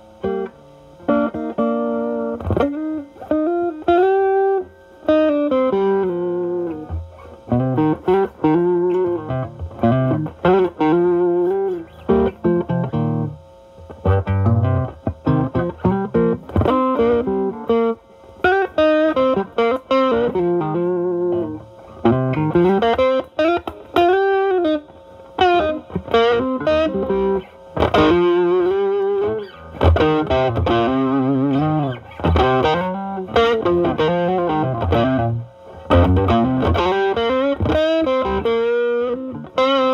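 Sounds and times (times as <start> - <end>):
overdriven electric guitar lead: 0.0 - 39.9.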